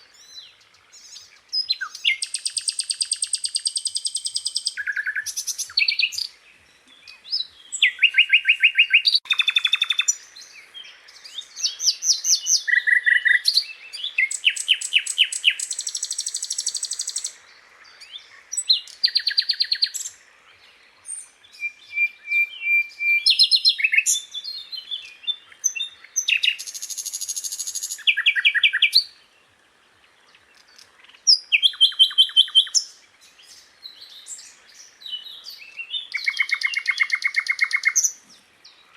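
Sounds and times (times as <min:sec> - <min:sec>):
flycatcher singing trills and whistles: 0:00.0 - 0:29.3, 0:30.4 - 0:38.9.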